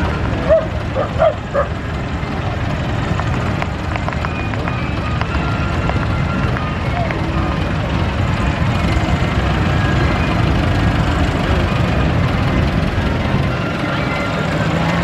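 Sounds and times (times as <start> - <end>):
tractor engines droning: 0.0 - 15.0.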